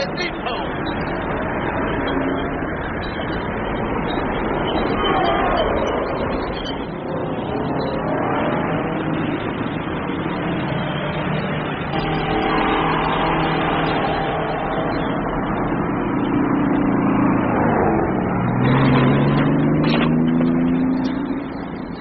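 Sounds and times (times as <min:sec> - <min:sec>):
diesel truck engines running: 0:00.0 - 0:22.0.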